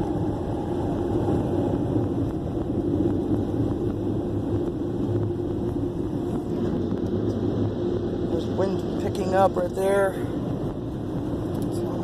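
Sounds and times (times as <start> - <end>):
dryer blowers rushing air: 0.0 - 12.0.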